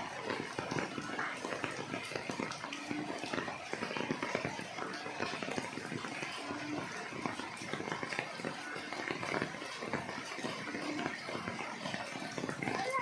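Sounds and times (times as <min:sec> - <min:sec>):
rain pattering on leaves: 0:00.0 - 0:13.0.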